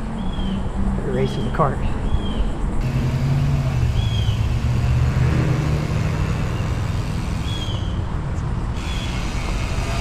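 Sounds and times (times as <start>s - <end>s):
motor vehicle running: 0.0s - 10.0s.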